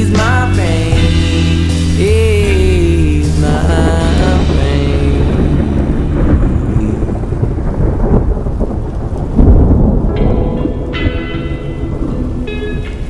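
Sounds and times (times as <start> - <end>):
steady rain: 0.0 - 13.0
low rolling thunder: 0.8 - 13.0.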